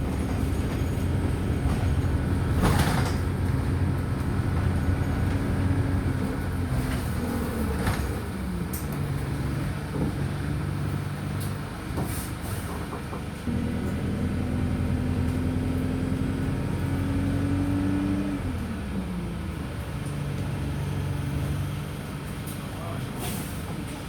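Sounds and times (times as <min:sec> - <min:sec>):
bus engine accelerating: 0:00.0 - 0:24.0.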